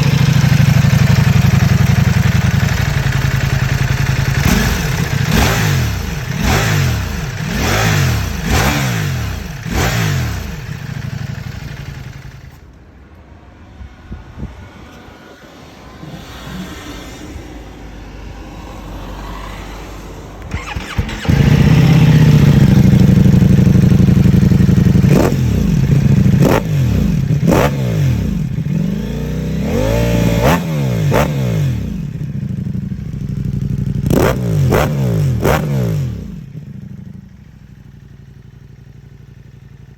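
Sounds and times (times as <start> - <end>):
motorcycle engine revving: 0.0 - 12.7, 14.3 - 39.9.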